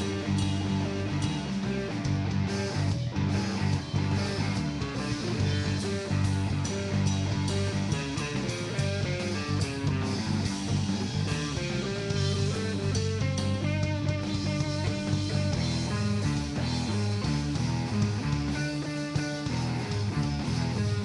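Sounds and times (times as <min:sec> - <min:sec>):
drum kit: 0:00.0 - 0:21.0
electric guitar: 0:00.0 - 0:21.0.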